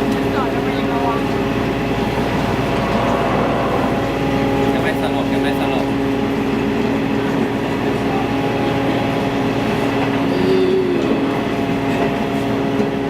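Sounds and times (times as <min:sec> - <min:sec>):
passenger train rolling: 0:00.0 - 0:13.0.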